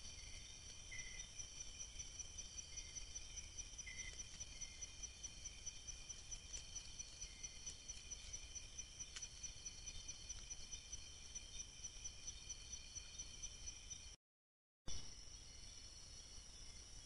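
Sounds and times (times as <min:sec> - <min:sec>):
crickets trilling: 0:00.0 - 0:14.2, 0:15.0 - 0:17.0.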